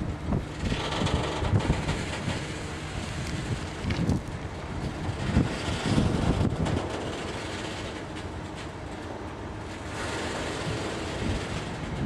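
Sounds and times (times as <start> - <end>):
train wheels on rails: 0.4 - 12.0.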